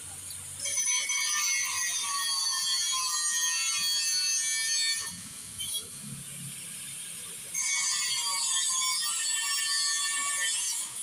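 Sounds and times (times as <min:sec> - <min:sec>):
angle grinder grinding steel: 0:00.6 - 0:06.0, 0:07.4 - 0:11.0.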